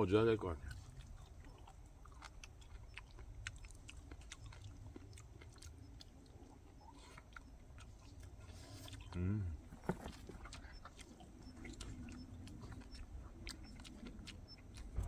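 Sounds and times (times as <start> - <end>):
faint low hum: 0.0 - 15.0
mouth clicks and smacks: 0.6 - 15.0
person chewing: 0.6 - 15.0.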